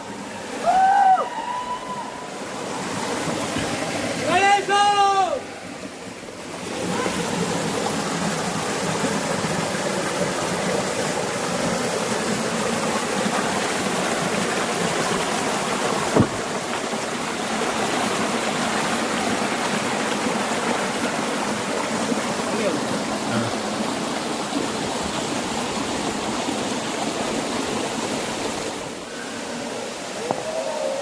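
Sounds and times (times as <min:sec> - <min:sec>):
flowing stream water: 0:00.0 - 0:31.0.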